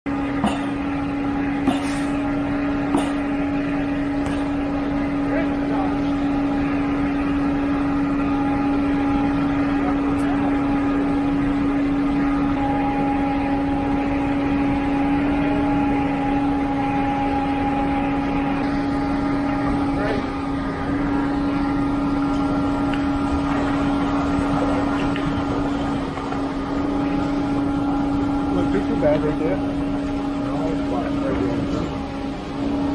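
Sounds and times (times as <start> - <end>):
concrete pump engine droning: 0.1 - 32.9.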